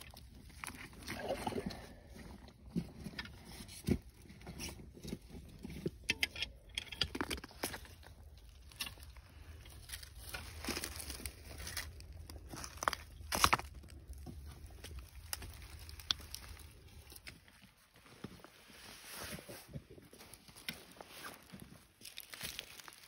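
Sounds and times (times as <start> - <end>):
gravel and stones crunching: 0.0 - 23.0.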